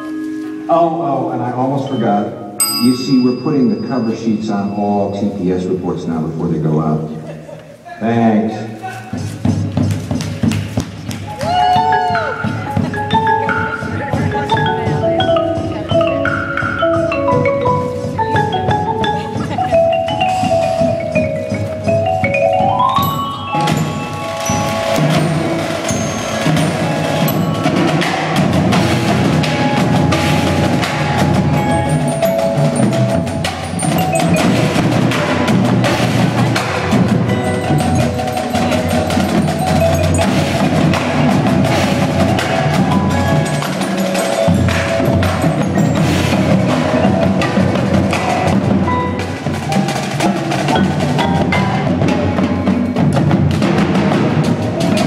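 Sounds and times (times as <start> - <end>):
marimbas and mallet keyboards: 0.0 - 7.2, 11.2 - 55.0
marching drums: 8.1 - 55.0.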